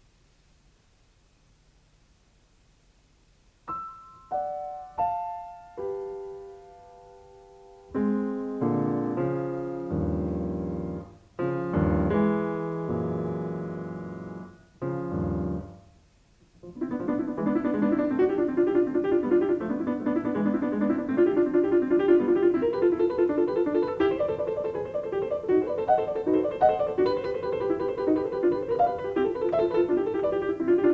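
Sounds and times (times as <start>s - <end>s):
solo piano notes and chords: 3.7s - 15.9s, 16.6s - 30.9s.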